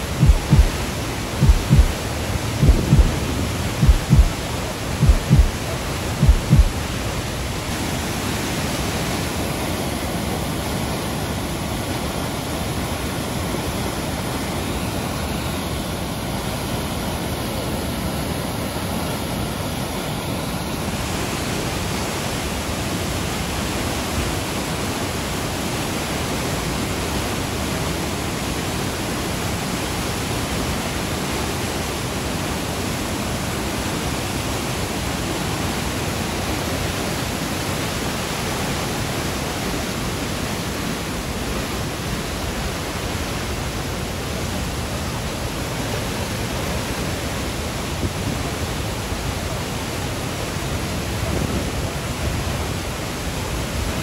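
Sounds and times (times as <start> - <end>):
roar of rushing floodwater: 0.0 - 54.0.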